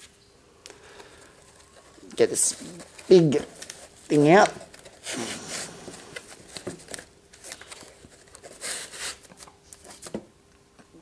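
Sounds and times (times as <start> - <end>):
packaging rustling and crinkling: 0.9 - 10.2.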